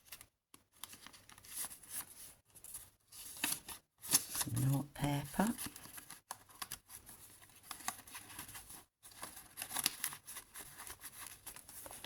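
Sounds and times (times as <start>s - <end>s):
paper rustling and crinkling: 0.0s - 4.8s, 5.4s - 12.0s.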